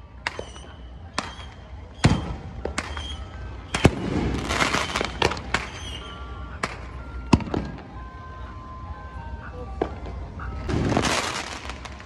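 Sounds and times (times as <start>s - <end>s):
fireworks crackling: 0.0s - 12.0s
fireworks bangs: 0.2s - 8.1s, 9.7s - 12.0s.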